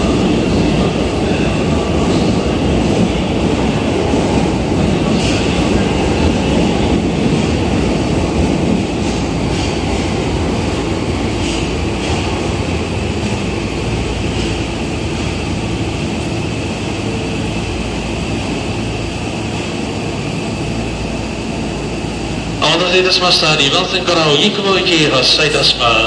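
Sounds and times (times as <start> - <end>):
train equipment humming: 0.0 - 26.0.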